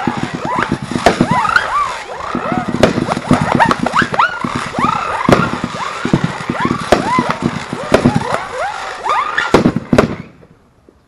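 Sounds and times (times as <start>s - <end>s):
firework launch thumps: 0.0s - 1.7s, 2.3s - 8.6s, 9.4s - 10.5s
firework whistles: 0.0s - 10.4s
firework bangs: 0.0s - 10.6s.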